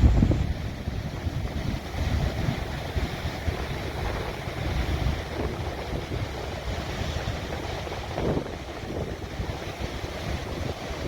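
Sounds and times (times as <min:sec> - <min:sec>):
waves breaking: 0:00.0 - 0:11.0
wind buffeting microphone: 0:00.0 - 0:11.0.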